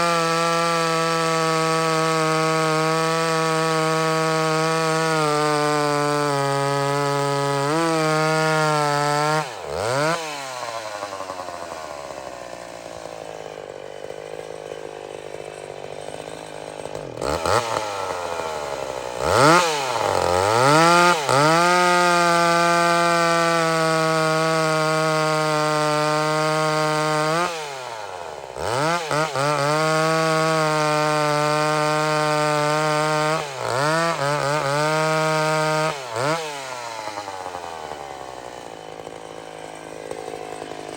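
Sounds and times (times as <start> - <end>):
two-stroke chainsaw revving: 0.0 - 40.9.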